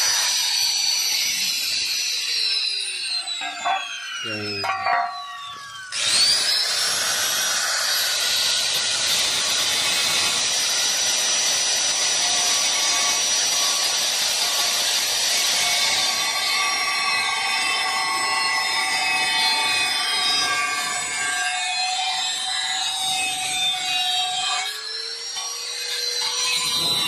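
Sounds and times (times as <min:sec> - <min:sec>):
power tool whining: 0:00.0 - 0:27.0.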